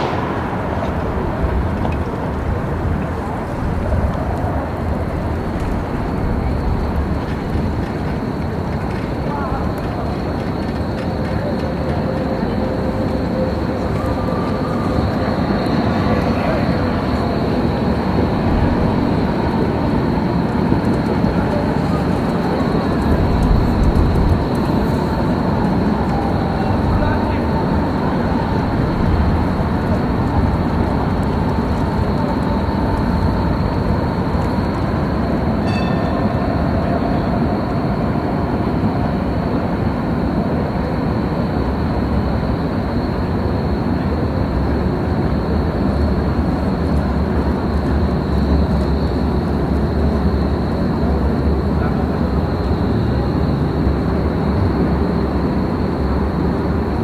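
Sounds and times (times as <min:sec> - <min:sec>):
people's voices: 0:00.0 - 0:55.4
low rumble of traffic: 0:00.0 - 0:57.0.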